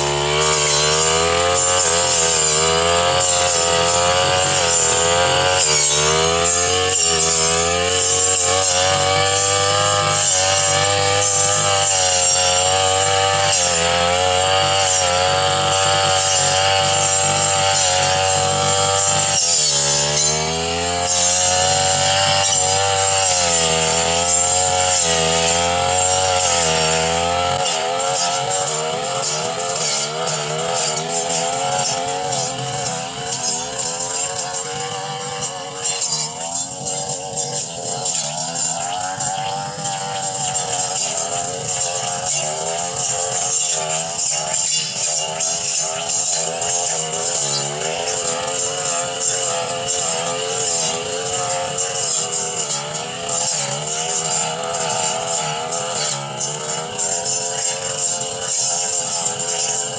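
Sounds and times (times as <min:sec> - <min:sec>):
brush cutter engine at high revs: 0:00.0 - 0:59.9.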